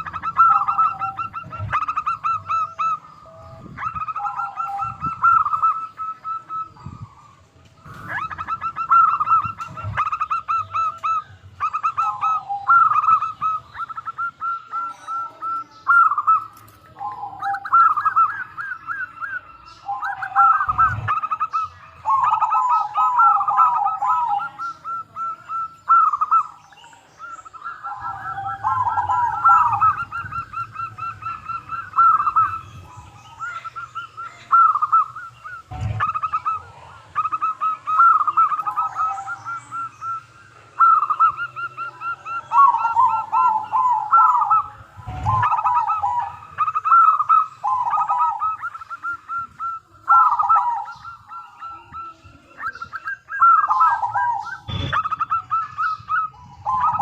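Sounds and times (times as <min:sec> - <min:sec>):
doves cooing in trills: 0:00.0 - 0:57.0.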